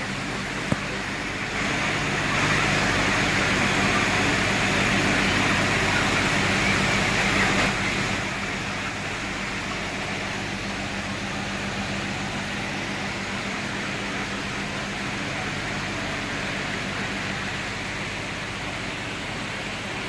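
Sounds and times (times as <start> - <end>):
ventilation fan humming: 0.0 - 20.0.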